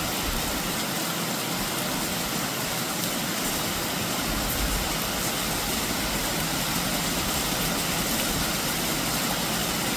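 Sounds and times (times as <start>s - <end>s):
rain falling: 0.0s - 9.9s.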